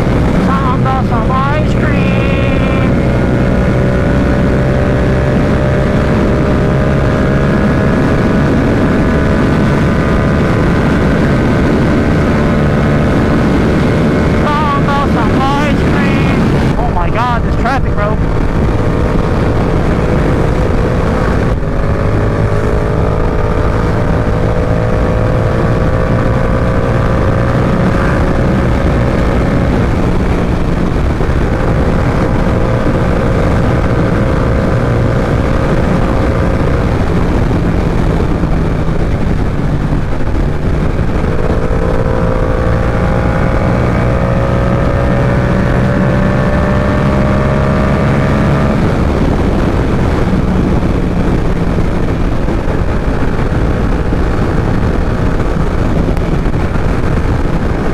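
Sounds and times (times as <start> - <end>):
motorcycle engine running under load: 0.0 - 57.9
wind rush on microphone: 0.0 - 57.9.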